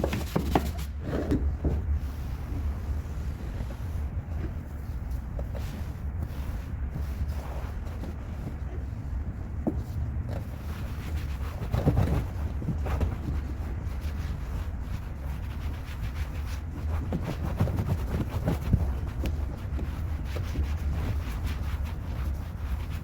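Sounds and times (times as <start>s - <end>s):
brush scrubbing surfaces: 0.0s - 23.0s.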